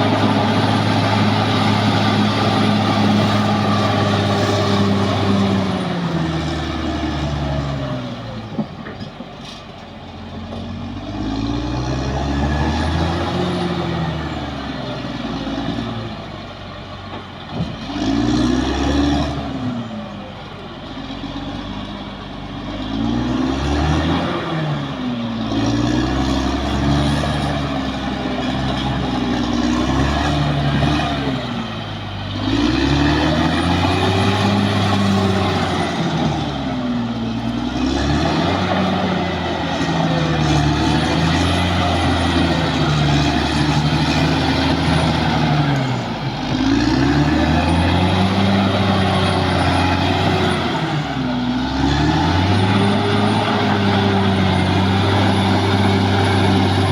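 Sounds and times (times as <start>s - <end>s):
bulldozer diesel engine working: 0.0s - 56.9s.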